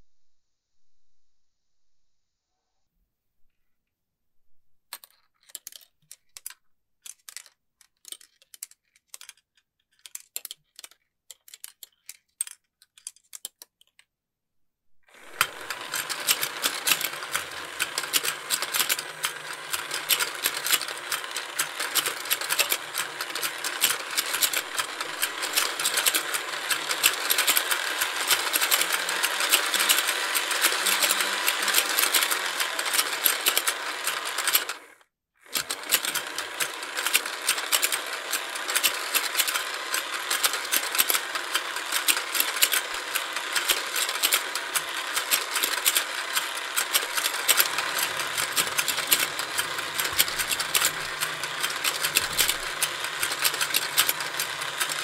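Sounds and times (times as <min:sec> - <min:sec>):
toy fishing game clattering: 0:04.9 - 0:14.0, 0:15.1 - 0:55.0.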